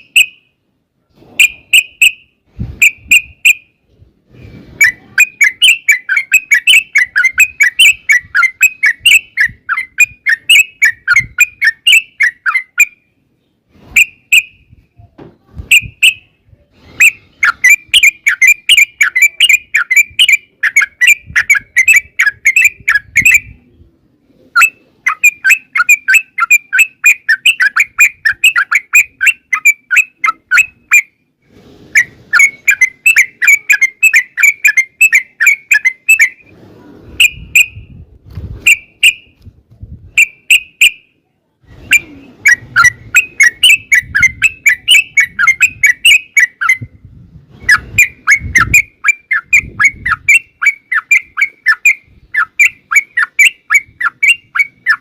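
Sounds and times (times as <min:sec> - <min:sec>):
bulbul chattering song: 0:00.0 - 0:00.6, 0:01.4 - 0:03.8, 0:04.8 - 0:13.2, 0:15.7 - 0:23.8, 0:24.5 - 0:31.2, 0:32.0 - 0:36.5, 0:40.1 - 0:47.0, 0:47.6 - 0:55.0.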